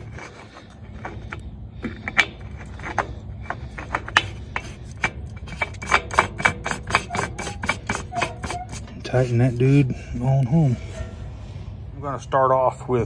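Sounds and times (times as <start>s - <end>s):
oil filter clicking and rubbing: 0.0s - 11.2s.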